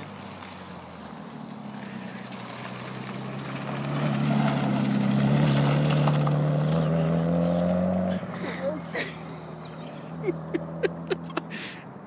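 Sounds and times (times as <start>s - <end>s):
car engine driving past: 0.0s - 11.4s.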